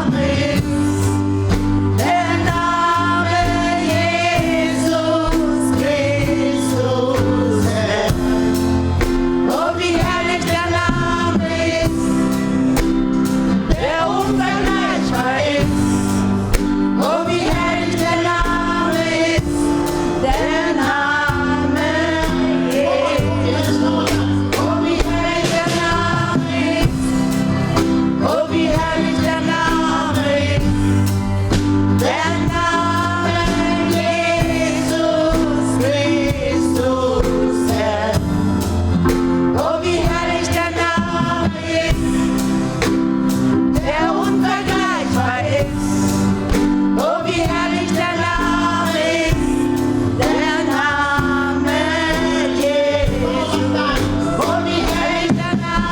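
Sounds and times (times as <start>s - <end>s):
gospel choir singing: 0.0s - 55.9s
instrumental backing with a beat: 0.0s - 55.9s.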